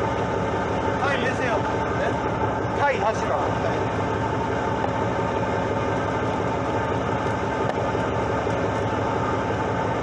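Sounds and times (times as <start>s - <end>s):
boat engine humming: 0.0s - 10.0s
rushing wind and water: 0.0s - 10.0s.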